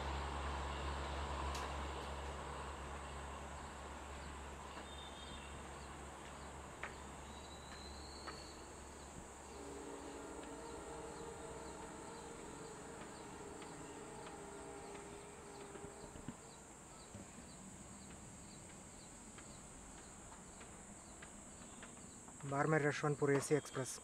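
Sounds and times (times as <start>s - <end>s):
faint steady hum: 0.0s - 23.3s
train rumble: 0.0s - 24.0s
insects ticking: 3.0s - 24.0s.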